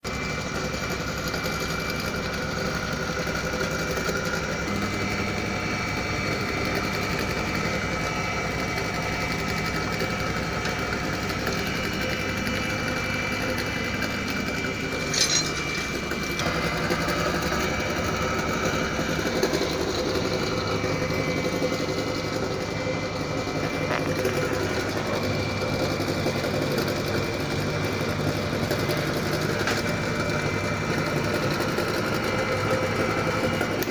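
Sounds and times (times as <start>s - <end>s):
tile cutter motor whirring: 0.0s - 33.9s.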